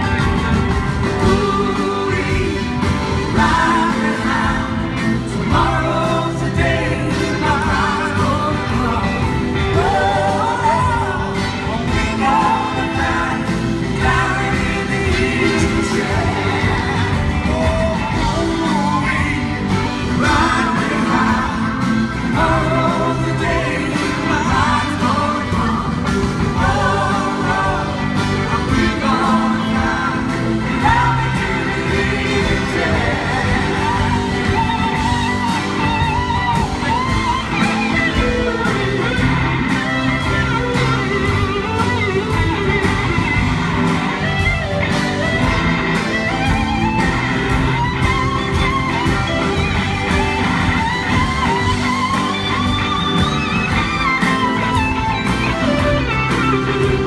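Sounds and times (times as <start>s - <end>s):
live rock band playing: 0.0s - 57.0s
sliding lead guitar line: 0.0s - 57.0s.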